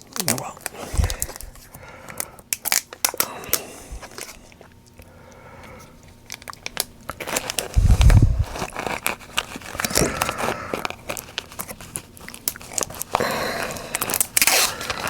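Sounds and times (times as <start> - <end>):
plastic film and tape crinkling: 0.0 - 4.7, 6.0 - 15.0.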